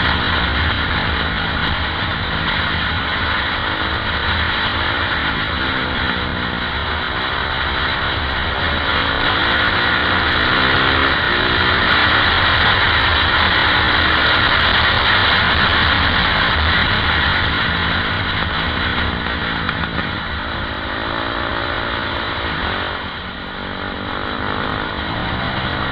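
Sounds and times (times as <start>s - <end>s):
wind rush on microphone: 0.0s - 21.2s
motorcycle engine revving: 0.0s - 25.9s.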